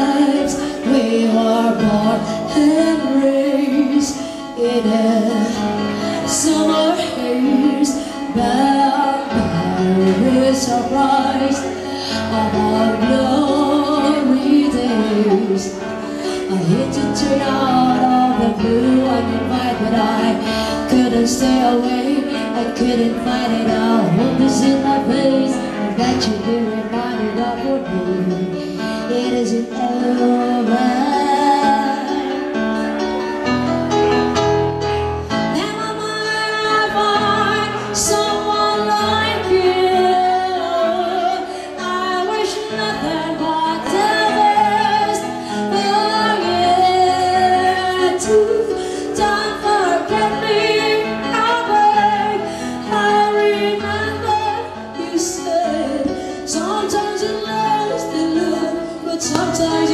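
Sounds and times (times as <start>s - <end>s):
woman singing: 0.0s - 33.4s, 35.3s - 59.9s
live band music: 0.0s - 59.9s.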